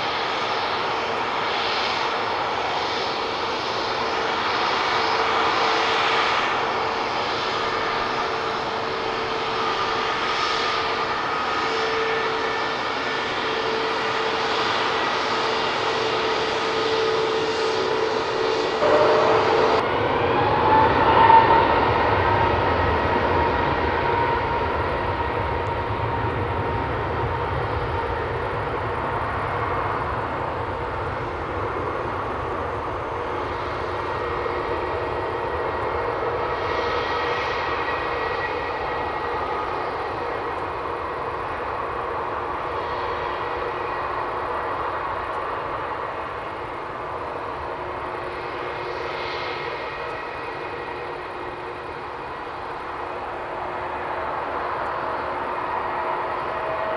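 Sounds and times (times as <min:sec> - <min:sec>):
jet airliner engines passing: 0:00.0 - 0:56.9.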